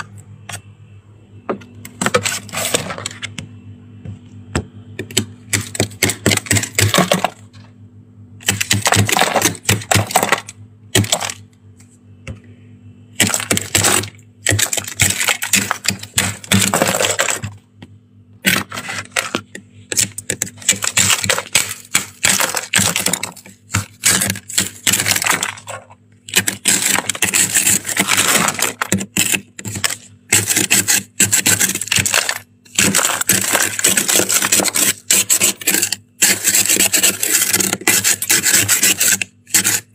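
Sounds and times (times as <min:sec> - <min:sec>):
plastic scraper scraping frost: 0:02.0 - 0:03.3, 0:05.0 - 0:07.4, 0:08.4 - 0:11.4, 0:13.2 - 0:17.6, 0:18.4 - 0:39.9.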